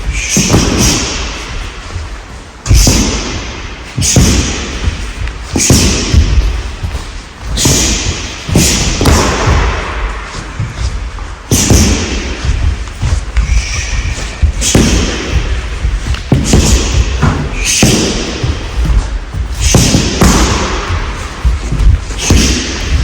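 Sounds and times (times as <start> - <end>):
punches and kicks thudding into mats: 0.0 - 1.7, 2.6 - 23.0.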